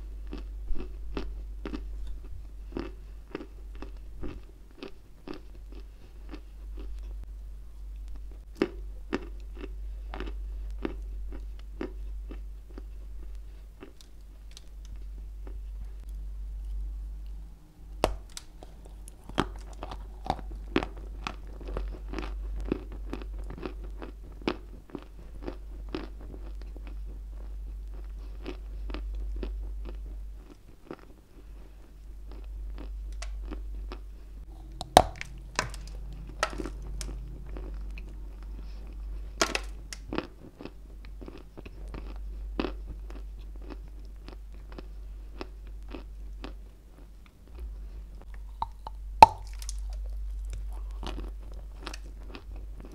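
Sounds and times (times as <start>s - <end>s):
low hum: 0.0s - 52.9s
chalk crunching while chewed: 0.2s - 7.2s, 8.0s - 16.8s, 18.1s - 52.9s.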